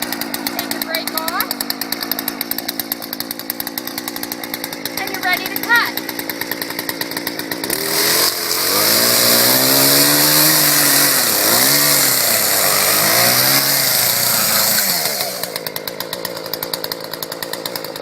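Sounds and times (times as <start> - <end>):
chainsaw cutting wood: 0.0 - 18.0.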